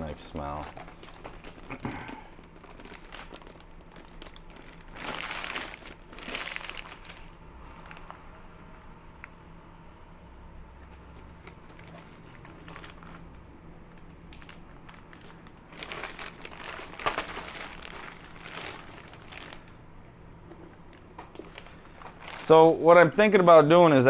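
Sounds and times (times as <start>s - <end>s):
plastic bag crinkling: 0.0s - 8.4s, 10.8s - 22.8s.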